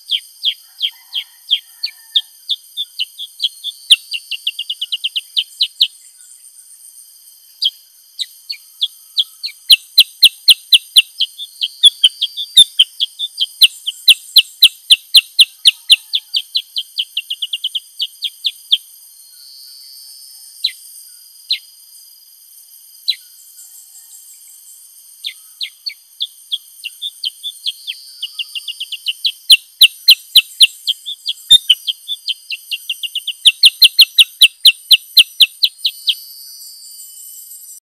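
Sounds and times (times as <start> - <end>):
bird chirping: 0.0 - 6.8, 7.5 - 20.9, 21.5 - 21.7, 23.0 - 37.8
high-pitched insect-like whine: 0.0 - 37.8.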